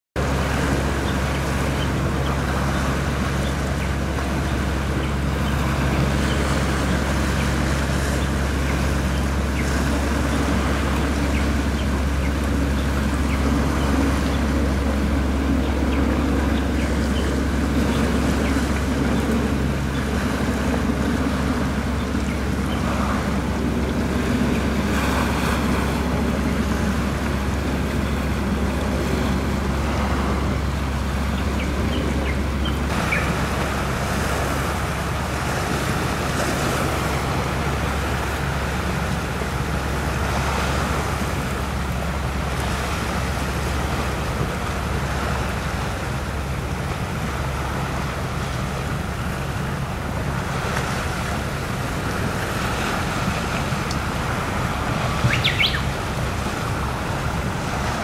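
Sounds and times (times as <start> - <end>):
steady low rumble: 0.2 - 58.0
waves washing: 0.2 - 58.0.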